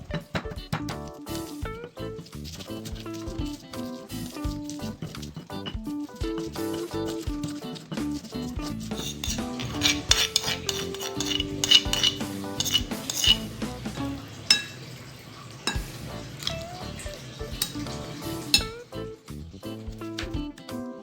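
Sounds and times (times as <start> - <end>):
background music: 0.0 - 14.9, 15.6 - 21.0
utensil clinking against cookware: 0.0 - 19.1.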